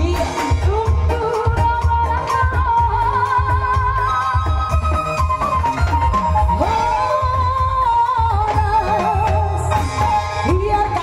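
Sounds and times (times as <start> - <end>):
held sliding melody line: 0.0 - 11.0.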